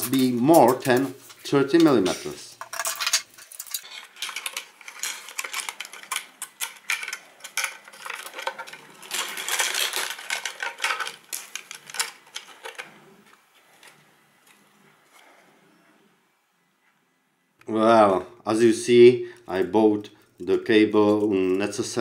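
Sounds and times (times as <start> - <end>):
cable rustling: 0.0 - 15.8, 19.4 - 22.0.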